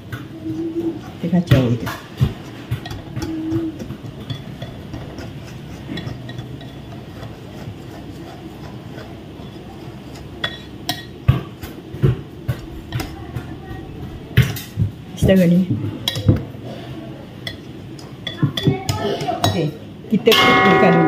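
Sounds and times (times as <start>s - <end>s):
spoon stirring thick batter: 0.0s - 19.8s.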